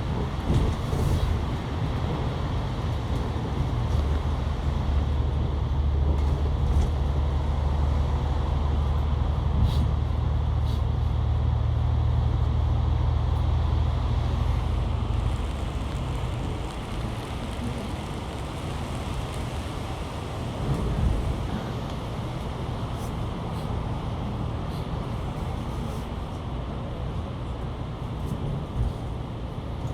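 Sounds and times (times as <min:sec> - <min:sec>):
rattles and clicks in cabin: 0:00.0 - 0:10.6, 0:15.0 - 0:29.9
bus engine drone: 0:00.0 - 0:29.9
road noise: 0:00.0 - 0:29.9.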